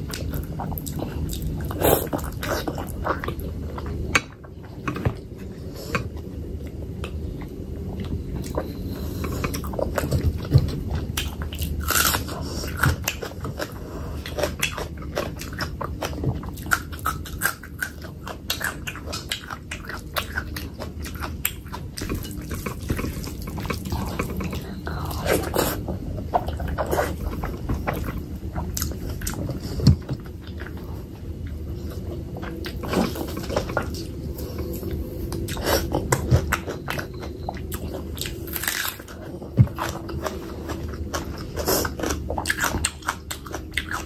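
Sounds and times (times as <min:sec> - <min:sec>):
chewing and mouth sounds: 0:00.0 - 0:44.0.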